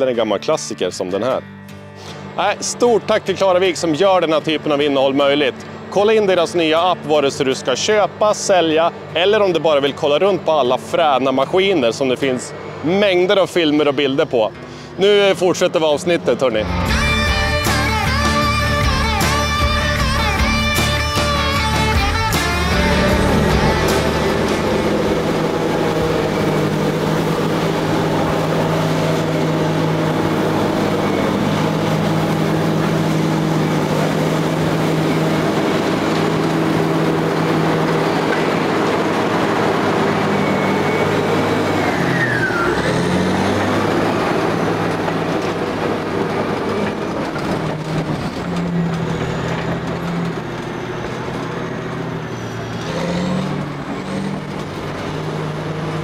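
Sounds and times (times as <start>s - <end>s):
bulldozer diesel engine under load: 2.0s - 56.0s
high whine gliding downward: 2.4s - 53.2s.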